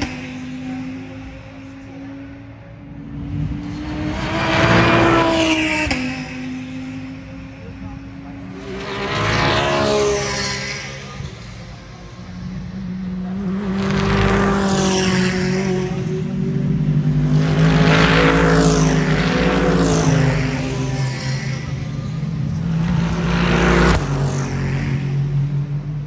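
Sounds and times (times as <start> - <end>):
race cars passing: 0.0 - 26.0.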